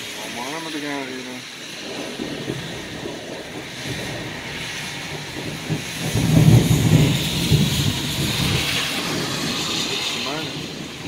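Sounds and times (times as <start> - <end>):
thunder rolling: 0.0 - 11.0.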